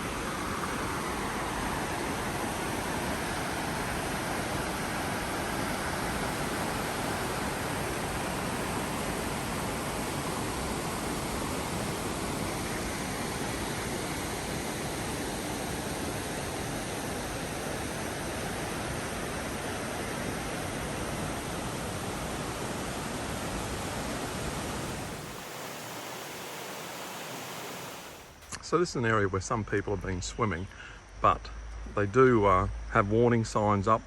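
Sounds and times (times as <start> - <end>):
creek water rushing over boulders: 0.0 - 28.4.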